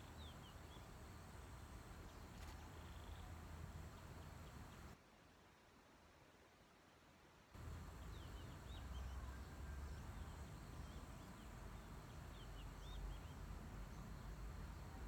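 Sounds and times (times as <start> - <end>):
small birds chirping: 0.0 - 5.0, 7.6 - 15.0.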